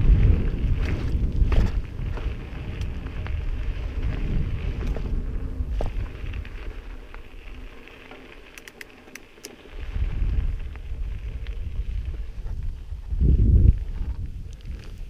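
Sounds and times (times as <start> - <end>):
wind buffeting microphone: 0.0 - 8.8, 9.6 - 15.0
bike tyres on gravel: 0.0 - 15.0.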